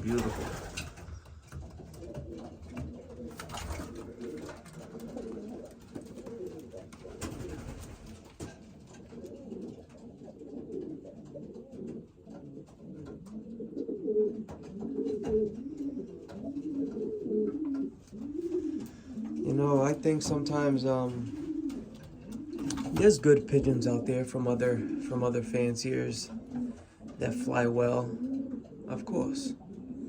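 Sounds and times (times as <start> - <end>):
pigeons cooing: 0.0 - 30.0.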